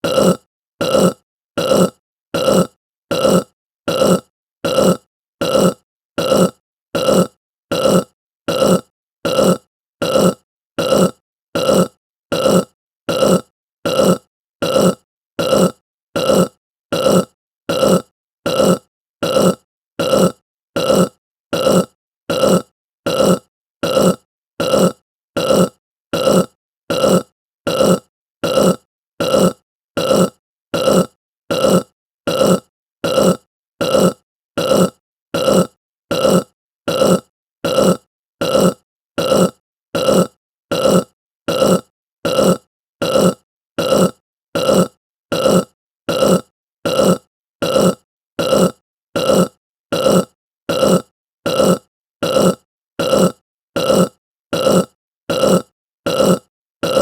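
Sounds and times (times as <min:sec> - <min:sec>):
person burping: 0:00.0 - 0:57.0.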